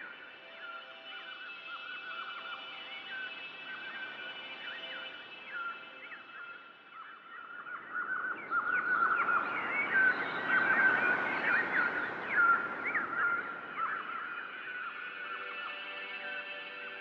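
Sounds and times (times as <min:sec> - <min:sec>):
small birds chirping and twittering: 0:00.0 - 0:17.0.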